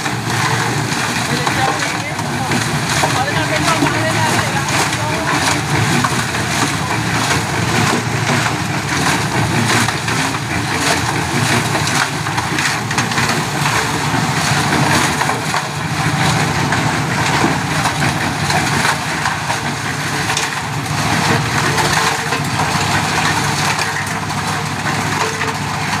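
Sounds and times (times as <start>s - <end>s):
concrete and gravel churning: 0.0s - 26.0s
concrete mixer running: 0.0s - 26.0s.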